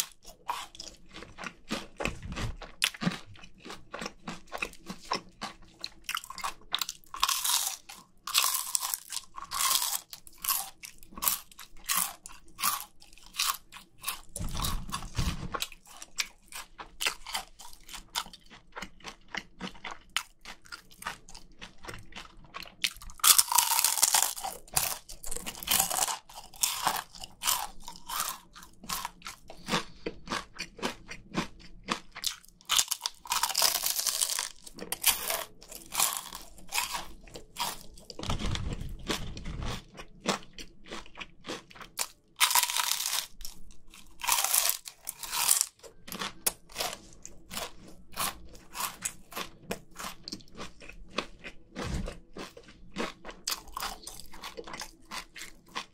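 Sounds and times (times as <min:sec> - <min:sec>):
crunching fried chicken: 0:00.0 - 0:55.9.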